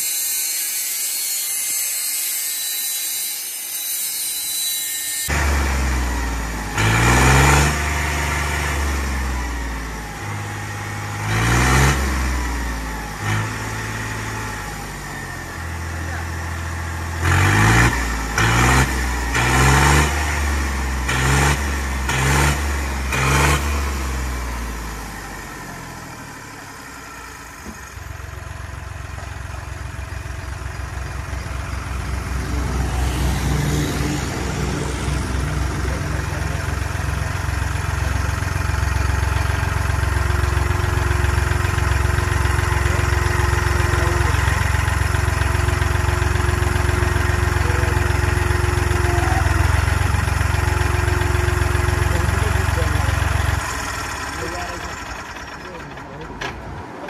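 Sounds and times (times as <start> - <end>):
tractor diesel engine revving: 5.2 - 57.0.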